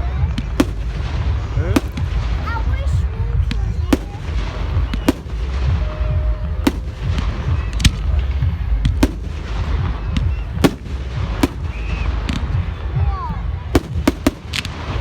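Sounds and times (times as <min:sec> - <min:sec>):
fireworks banging: 0:00.0 - 0:15.0
low rumble of fireworks: 0:00.0 - 0:15.0.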